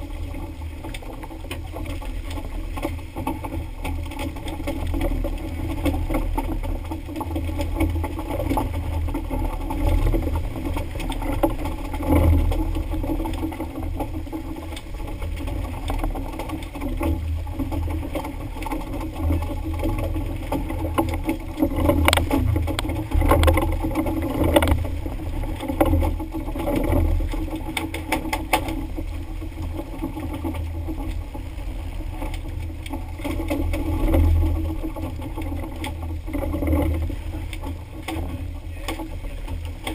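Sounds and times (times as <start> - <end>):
boat engine running: 0.0 - 39.9
wind and water rumble: 0.0 - 39.9.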